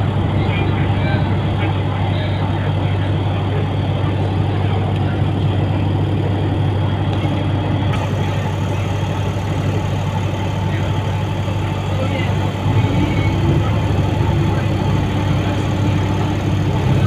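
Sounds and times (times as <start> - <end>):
constant low hum: 0.0 - 17.0
train wheels rumbling on rails: 0.0 - 17.0.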